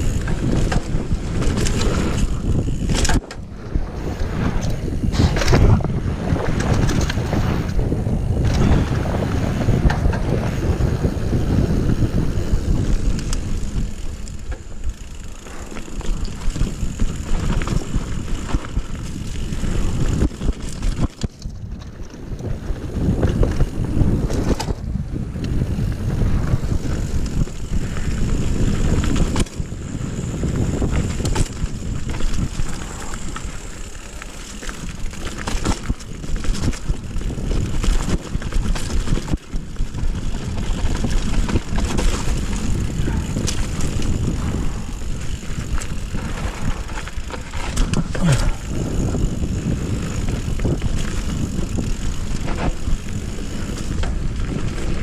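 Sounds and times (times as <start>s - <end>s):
bike rattling over bumps: 0.0s - 55.0s
wind buffeting microphone: 0.0s - 55.0s.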